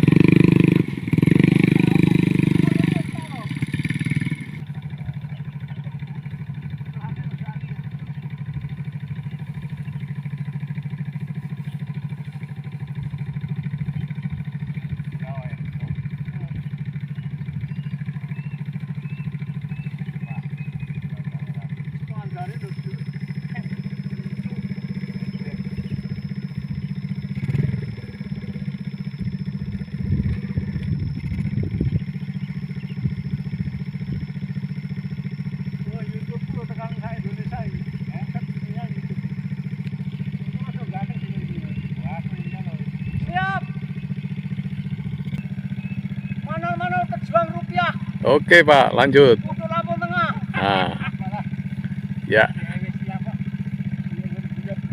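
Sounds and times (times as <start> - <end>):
engine idling: 0.0 - 54.9.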